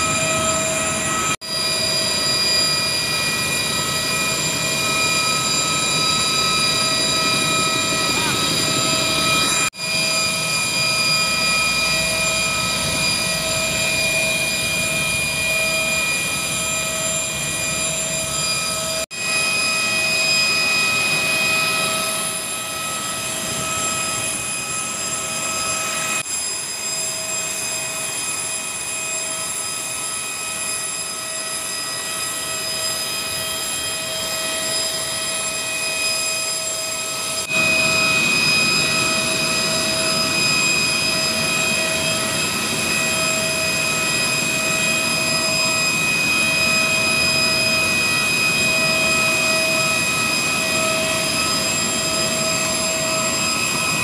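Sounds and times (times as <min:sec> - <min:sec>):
jet engine rush and whine: 0:00.0 - 0:54.0.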